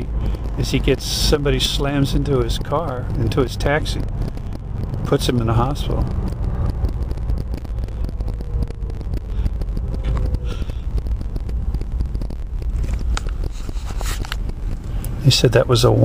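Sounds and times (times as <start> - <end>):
car engine and road noise: 0.0 - 16.0
faint whine dropping in pitch: 0.0 - 16.0.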